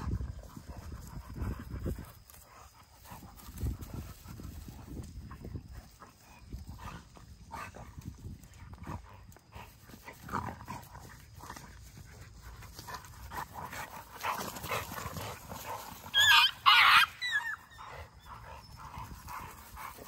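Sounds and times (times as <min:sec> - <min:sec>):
dogs scuffling and thudding: 0:00.0 - 0:16.1
dog noises: 0:00.0 - 0:20.0.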